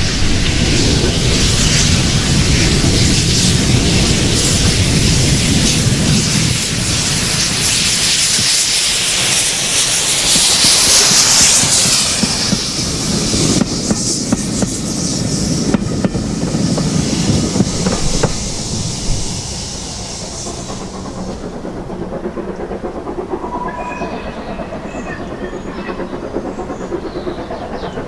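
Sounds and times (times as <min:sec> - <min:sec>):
steam hiss: 0:00.0 - 0:28.0
steam locomotive passing: 0:00.0 - 0:28.0.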